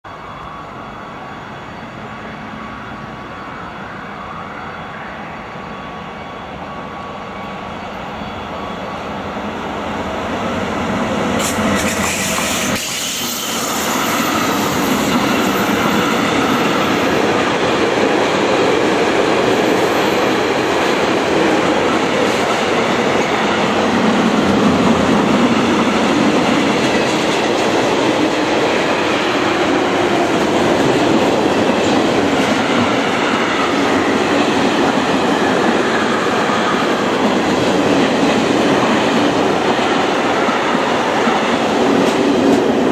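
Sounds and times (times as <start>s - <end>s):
freight train rumbling past: 0.0s - 42.9s
wheel noise on rails: 0.1s - 42.9s.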